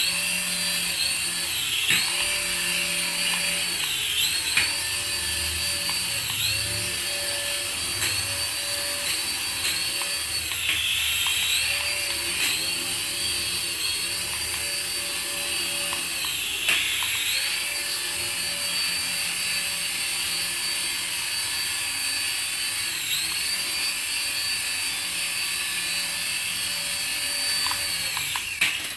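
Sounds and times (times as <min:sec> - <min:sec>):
toy electric motor whining: 0:00.0 - 0:28.9.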